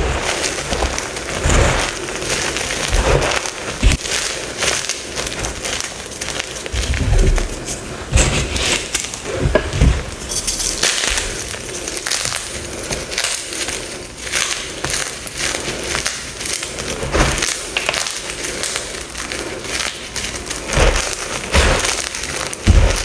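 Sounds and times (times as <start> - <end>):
chalk blocks crunching: 0.0 - 23.0.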